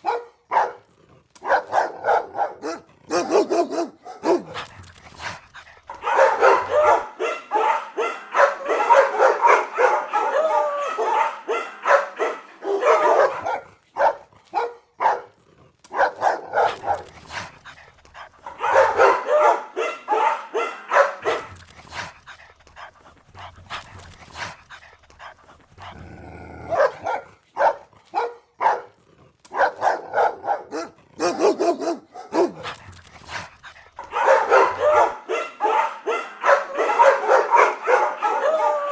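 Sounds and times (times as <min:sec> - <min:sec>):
dogs barking angrily: 0:00.0 - 0:38.9.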